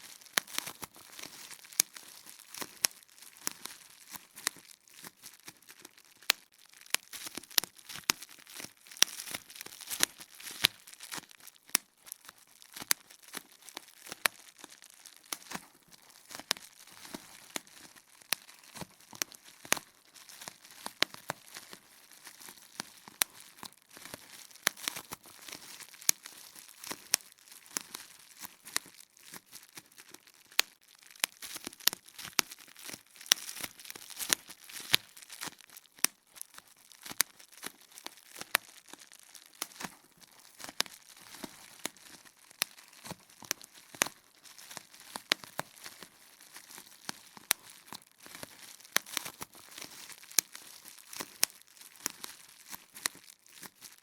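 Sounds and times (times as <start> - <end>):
bubble wrap popping: 0.0 - 54.0
plastic sheet crinkling: 0.0 - 54.0.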